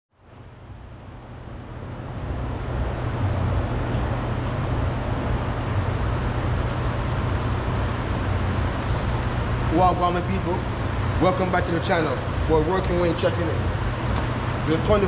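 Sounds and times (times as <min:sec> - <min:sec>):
road traffic rumble: 0:00.4 - 0:15.0.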